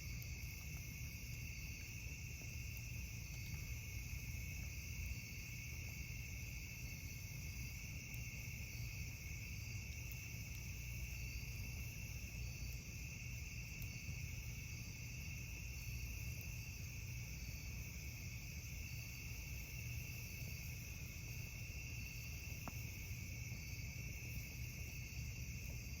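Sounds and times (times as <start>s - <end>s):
crickets and insects trilling: 0.0s - 26.0s.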